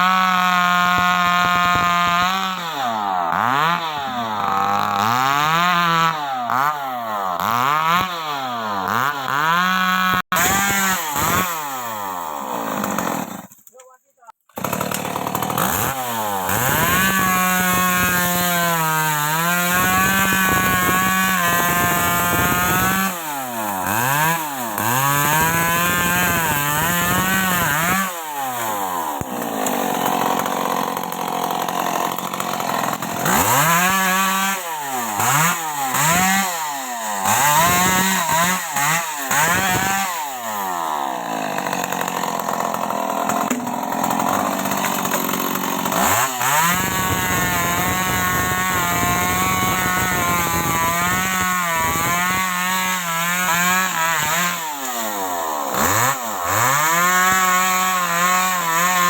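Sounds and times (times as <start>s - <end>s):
chainsaw engine revving: 0.0s - 13.6s, 14.5s - 59.0s
chainsaw cutting wood: 0.0s - 59.0s.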